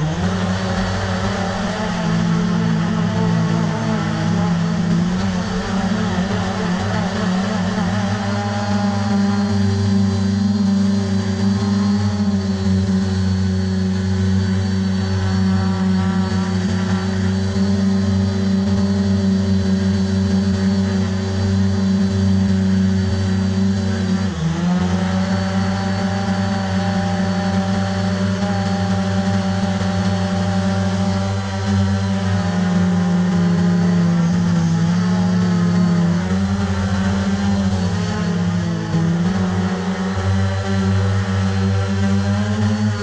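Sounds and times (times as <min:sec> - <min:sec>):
drone propellers humming: 0:00.0 - 0:43.0.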